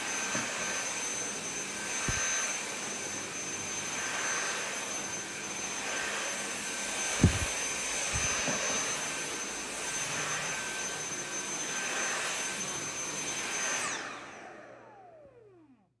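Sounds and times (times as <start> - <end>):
vacuum cleaner whining: 0.0 - 16.0
vacuum motor winding down: 0.0 - 16.0.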